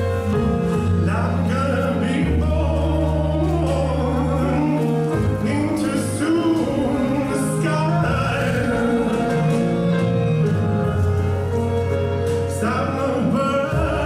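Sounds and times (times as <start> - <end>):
person singing: 0.0 - 14.0
sustained low bass notes: 0.0 - 14.0.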